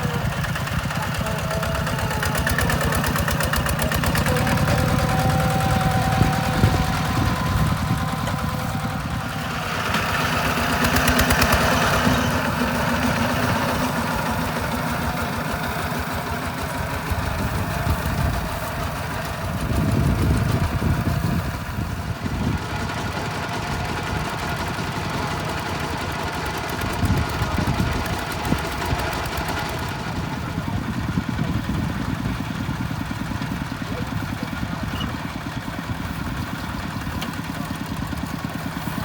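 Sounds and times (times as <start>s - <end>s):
diesel tractor engine chugging: 0.0s - 39.0s.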